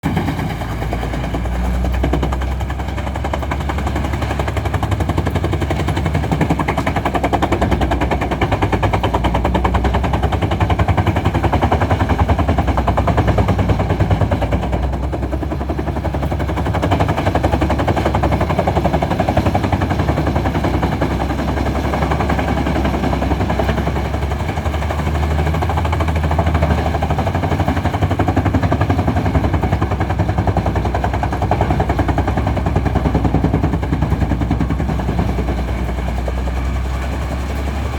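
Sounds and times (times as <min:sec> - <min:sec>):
low diesel engine drone: 0:00.0 - 0:37.9
wood chipper cutting rattle: 0:00.0 - 0:37.9.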